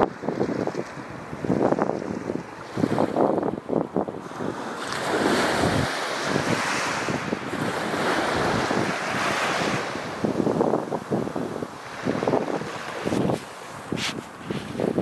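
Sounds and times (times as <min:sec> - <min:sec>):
small waves breaking on sand: 0:00.0 - 0:15.0
wind buffeting microphone: 0:00.0 - 0:15.0.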